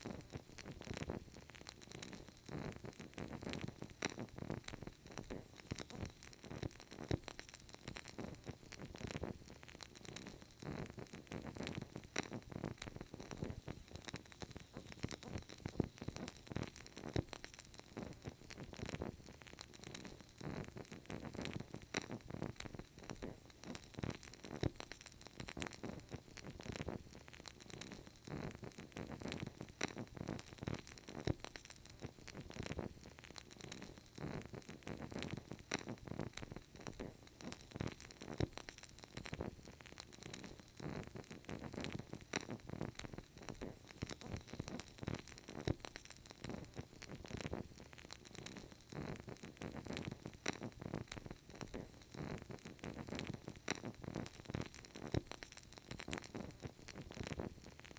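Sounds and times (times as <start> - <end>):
candle crackling: 0.0 - 57.9.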